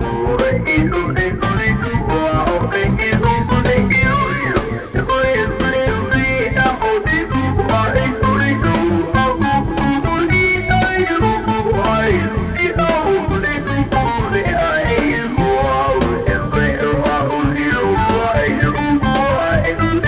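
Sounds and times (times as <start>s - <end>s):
drum beat: 0.0s - 20.0s
electric bass line: 0.0s - 20.0s
electric guitar runs: 0.0s - 20.0s
keyboards: 0.0s - 20.0s.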